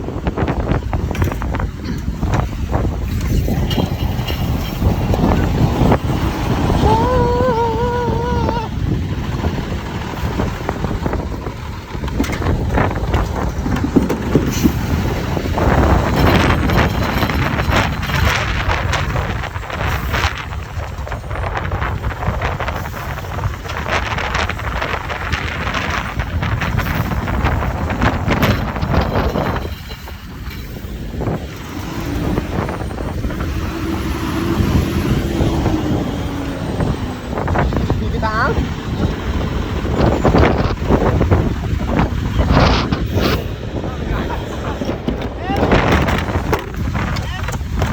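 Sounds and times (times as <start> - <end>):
garbage truck diesel engine: 0.0 - 47.9
wind noise on microphone: 0.0 - 47.9.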